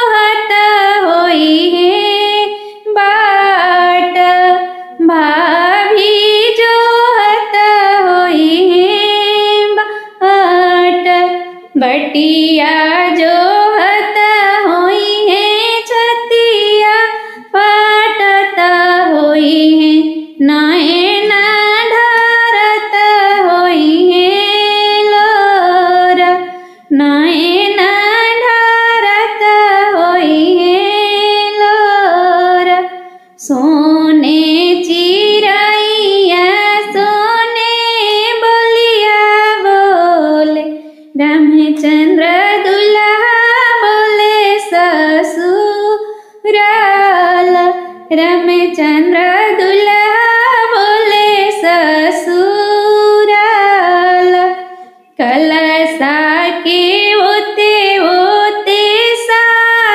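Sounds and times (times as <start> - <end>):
woman singing folk song: 0.0 - 59.9.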